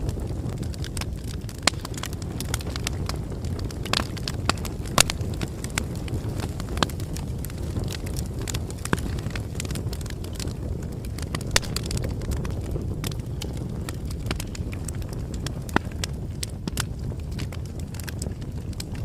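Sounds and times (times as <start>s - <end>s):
campfire flames rumbling: 0.0s - 19.0s
wood crackling and popping: 0.0s - 19.0s.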